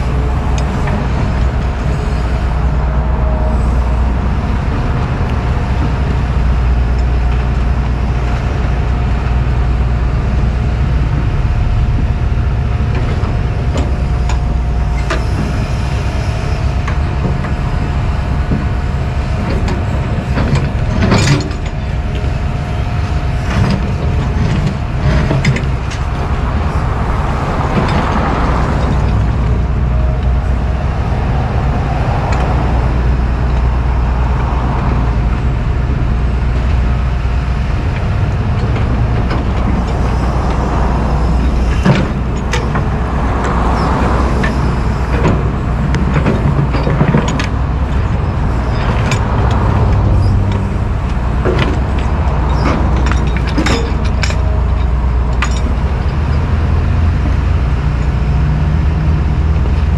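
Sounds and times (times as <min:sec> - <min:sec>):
excavator diesel engines droning: 0:00.0 - 0:59.9.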